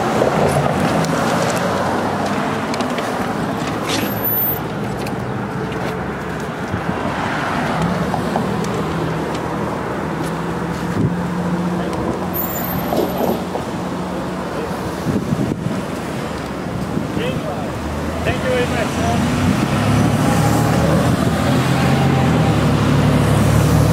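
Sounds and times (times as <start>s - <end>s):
cars driving past: 0.0s - 23.9s.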